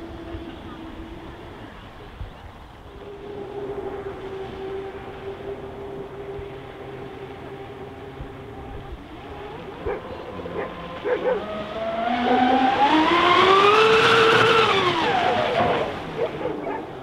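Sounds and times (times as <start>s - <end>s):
electric boat motor whine: 0.0s - 17.0s.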